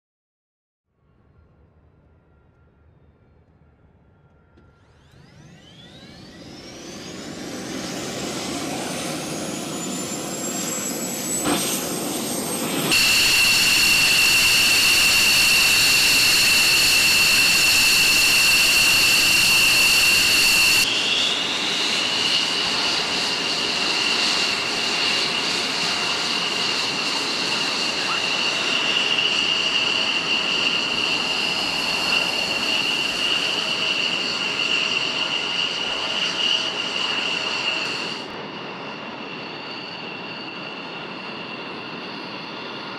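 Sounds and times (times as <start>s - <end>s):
jet engines whining: 1.9s - 42.9s.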